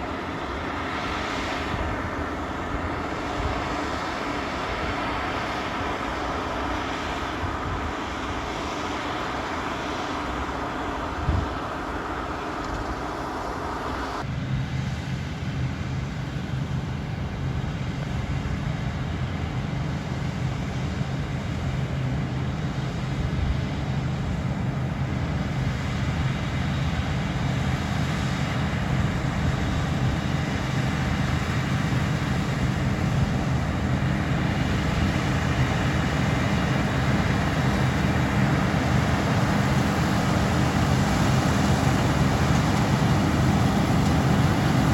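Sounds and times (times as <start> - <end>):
combine harvester engine drone: 0.0 - 44.9.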